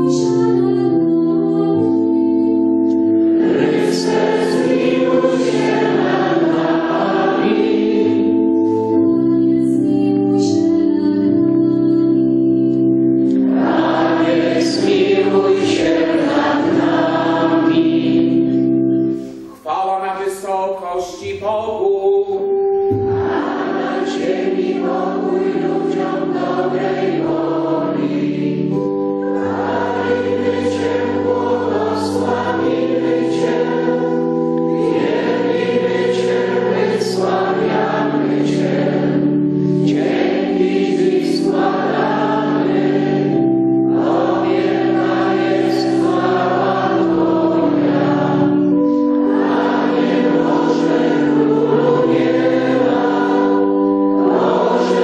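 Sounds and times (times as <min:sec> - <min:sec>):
priests singing: 0:00.0 - 0:12.0, 0:13.4 - 0:18.8, 0:19.6 - 0:55.0
choir and congregation chanting: 0:00.0 - 0:55.0
sustained accompanying notes: 0:01.9 - 0:09.0, 0:13.0 - 0:55.0.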